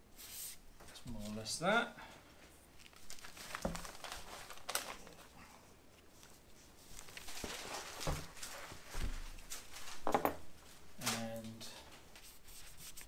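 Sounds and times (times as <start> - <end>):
paper rustling and crinkling: 2.5 - 13.0.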